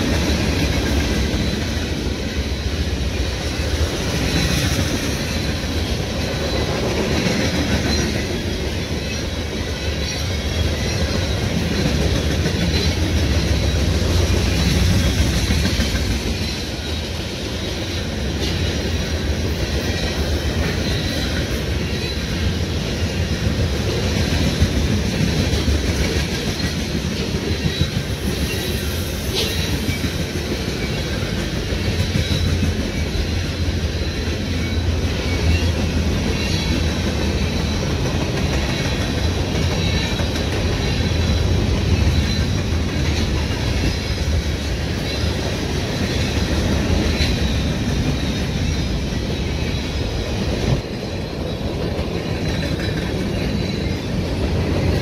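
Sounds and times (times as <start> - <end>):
freight train wheels rumbling: 0.0 - 55.0
train cars clattering: 0.0 - 55.0.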